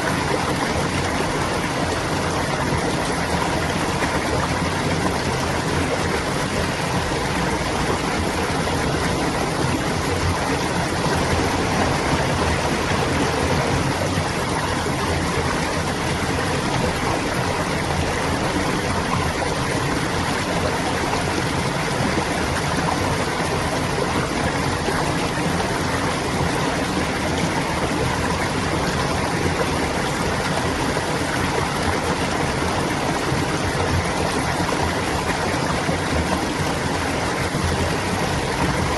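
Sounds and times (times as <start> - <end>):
stream water gurgling over stones: 0.0 - 38.9.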